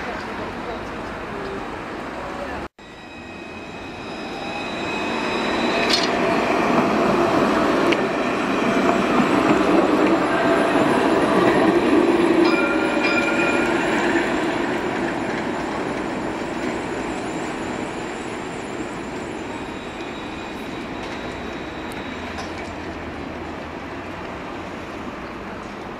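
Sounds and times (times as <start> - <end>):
tram passing on rails: 0.0 - 25.9.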